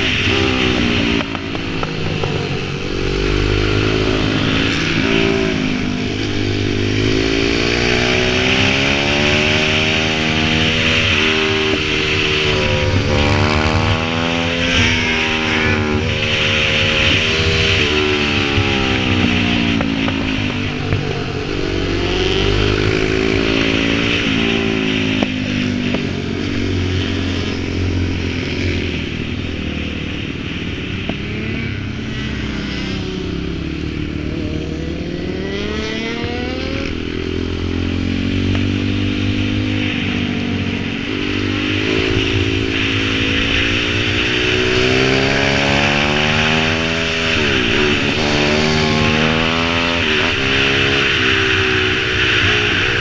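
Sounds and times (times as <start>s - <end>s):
pit bike engine revving: 0.0s - 53.0s.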